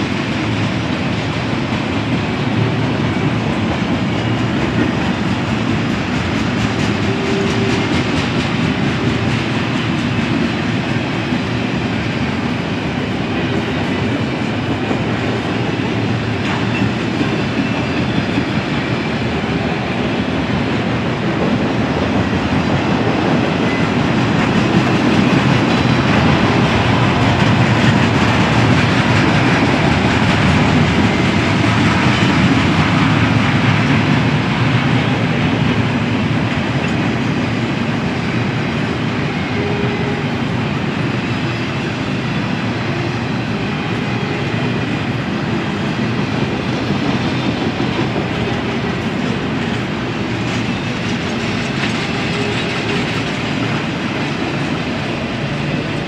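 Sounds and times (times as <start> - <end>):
steel train wheels on rail: 0.0 - 56.0.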